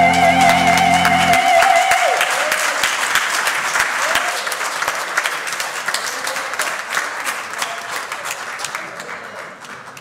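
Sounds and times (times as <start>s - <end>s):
congregation applauding: 0.0s - 10.0s.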